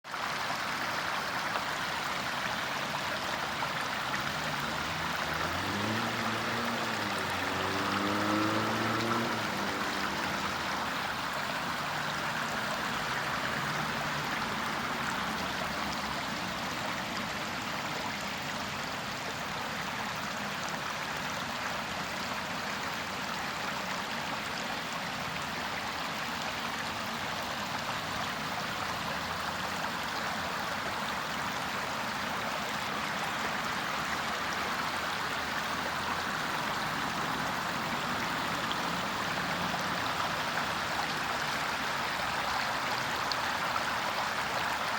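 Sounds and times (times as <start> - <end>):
rainwater flowing in a street: 0.0 - 44.9.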